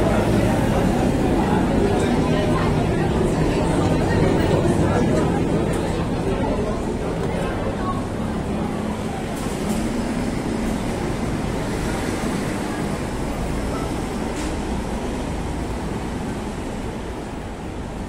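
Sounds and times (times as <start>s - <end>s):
low rumble of street traffic: 0.0s - 18.0s.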